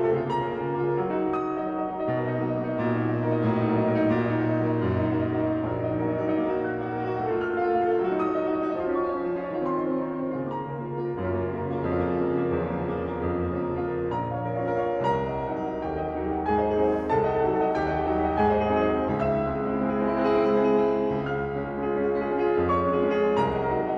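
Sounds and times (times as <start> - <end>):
solo piano playing chords: 0.0 - 23.9.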